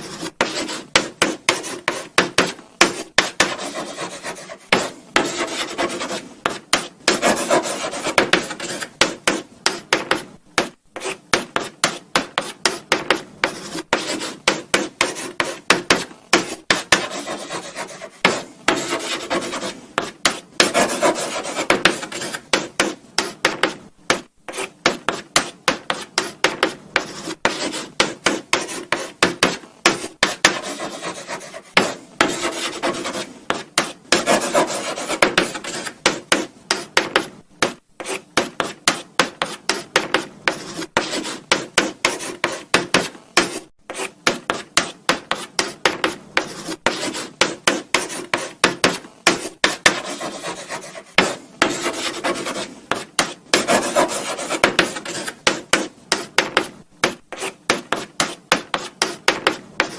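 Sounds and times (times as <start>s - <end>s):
chalk scratching on blackboard: 0.0s - 59.9s.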